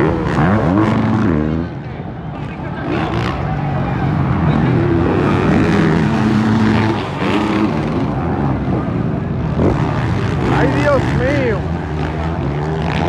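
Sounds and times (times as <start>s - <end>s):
dirt bike engines racing: 0.0s - 13.0s.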